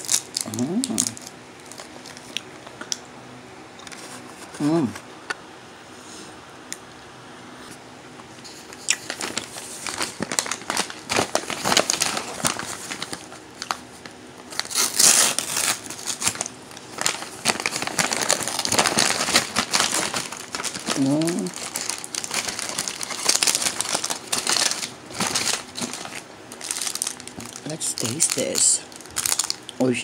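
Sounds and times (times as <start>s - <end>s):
plastic snack packet crinkling: 0.0s - 3.0s, 8.5s - 29.8s.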